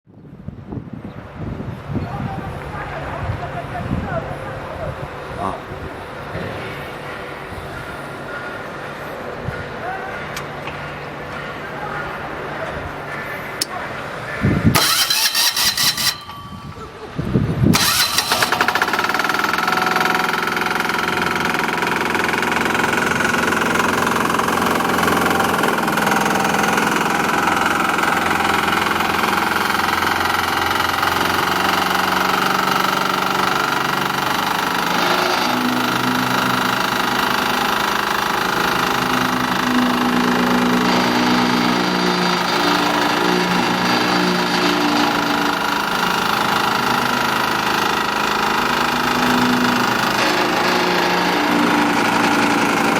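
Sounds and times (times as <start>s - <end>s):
road roller engine running: 4.3s - 52.9s.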